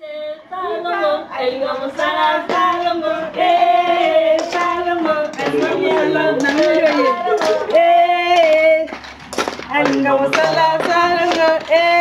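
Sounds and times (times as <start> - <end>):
women singing: 0.0 - 9.0, 9.7 - 12.0.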